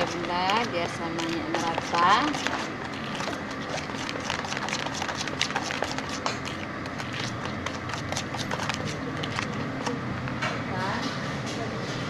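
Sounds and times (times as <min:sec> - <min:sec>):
utensil stirring batter in bowl: 0:00.0 - 0:10.4.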